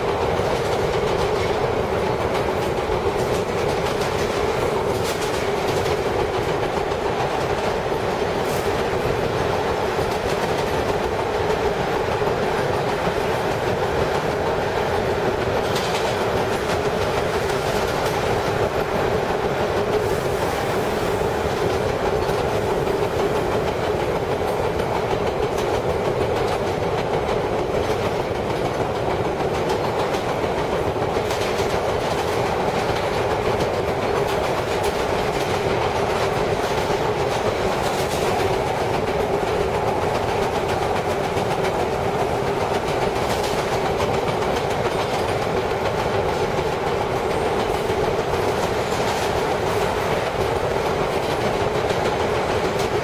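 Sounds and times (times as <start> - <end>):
faint clacks over rail joints: 0.0 - 53.0
subway train wheels roaring on rails: 0.0 - 53.0.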